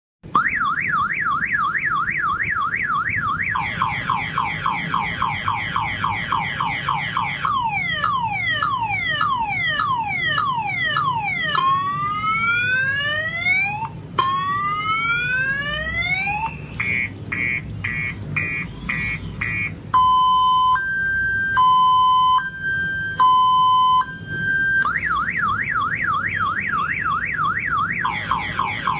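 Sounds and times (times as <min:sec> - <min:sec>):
car alarm siren: 0:00.2 - 0:28.9.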